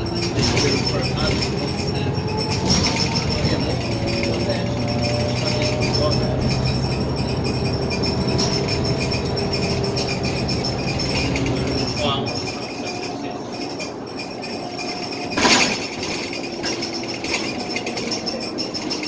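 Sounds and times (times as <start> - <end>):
bus engine hum: 0.0 - 19.0
interior fittings rattling: 0.0 - 19.0
transmission whine: 0.0 - 19.0.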